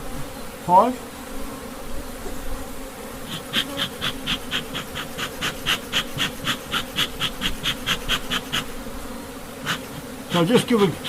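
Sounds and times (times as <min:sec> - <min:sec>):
bees humming: 0:00.0 - 0:11.0
bee smoker bellows puffing: 0:01.2 - 0:11.0.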